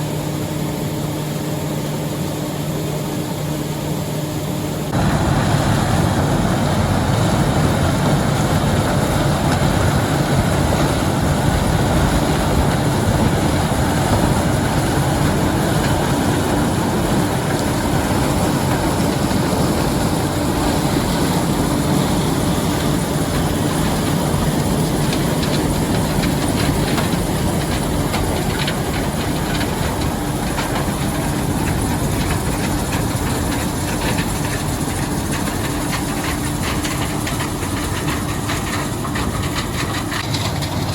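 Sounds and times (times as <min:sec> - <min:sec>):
combine engine drone: 0:00.0 - 0:40.9
machinery rattling: 0:04.9 - 0:40.9.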